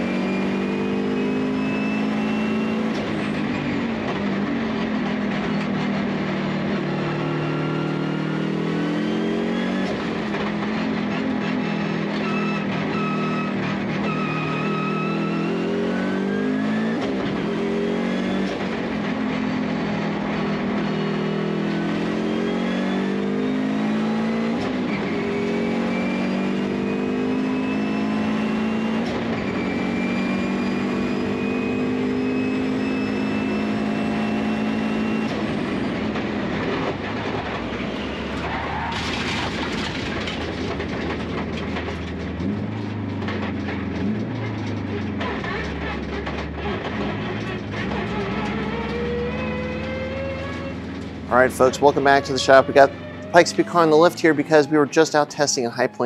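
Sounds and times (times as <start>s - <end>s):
race car engine shifting gears: 0.0s - 56.0s.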